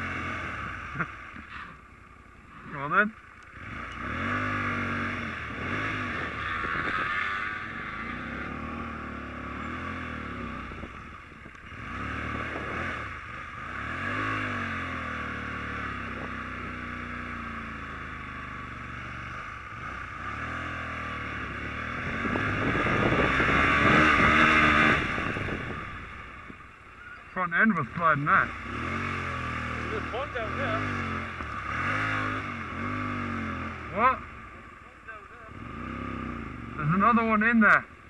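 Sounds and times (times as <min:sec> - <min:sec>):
motorbike engine revving: 0:00.0 - 0:01.8, 0:02.8 - 0:38.0.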